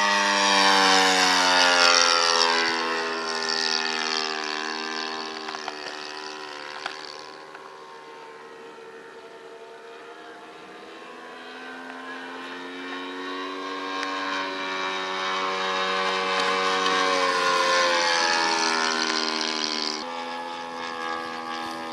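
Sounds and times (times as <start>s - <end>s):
model airplane engine drone: 0.0s - 21.9s.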